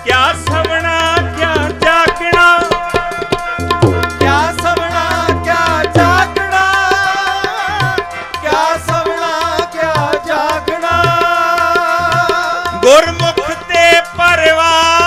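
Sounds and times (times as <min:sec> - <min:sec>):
harmonium: 0:00.0 - 0:15.0
men singing devotional melody: 0:00.0 - 0:15.0
tabla beat: 0:00.0 - 0:15.0.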